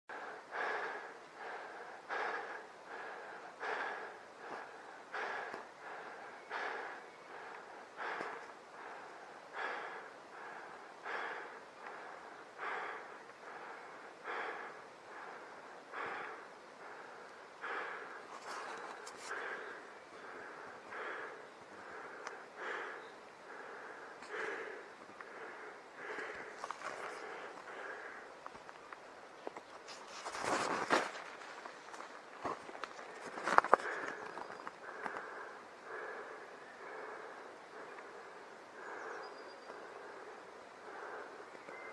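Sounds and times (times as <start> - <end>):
heavy quick breathing: 0.1 - 28.4, 29.9 - 41.9.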